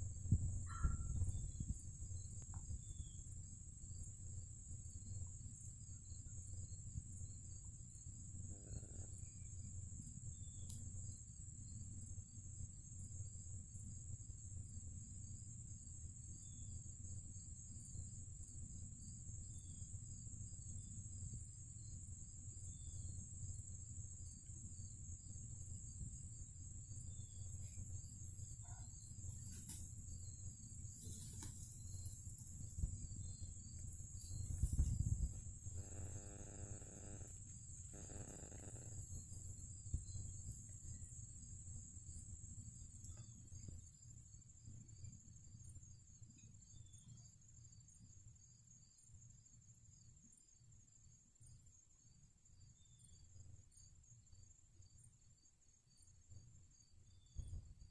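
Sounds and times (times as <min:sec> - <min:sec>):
high-pitched insect chorus: 0:00.0 - 0:57.9.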